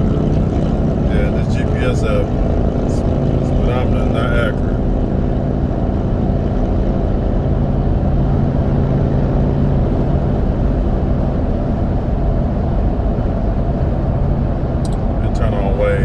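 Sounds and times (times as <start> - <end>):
tire road noise in car cabin: 0.0 - 16.0.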